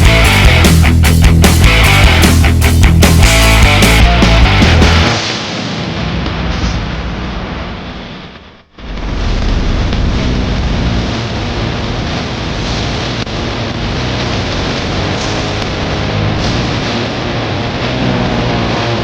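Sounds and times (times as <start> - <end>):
distorted rock music: 0.0 - 19.0.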